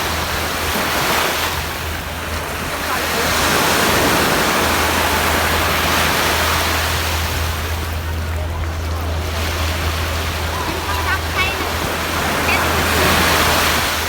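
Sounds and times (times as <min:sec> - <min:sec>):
surf breaking on a beach: 0:00.0 - 0:14.0.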